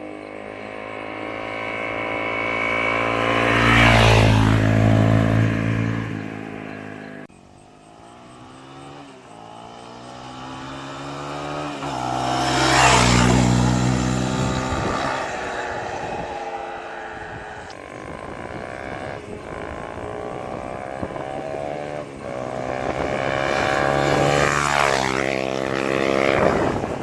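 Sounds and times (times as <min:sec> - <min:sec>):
dirt bike riding past: 0:00.0 - 0:27.0.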